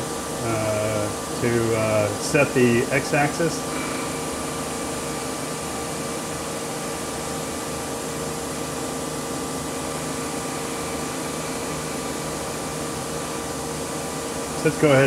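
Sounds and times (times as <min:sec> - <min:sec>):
lathe spindle whirring: 0:00.0 - 0:15.0.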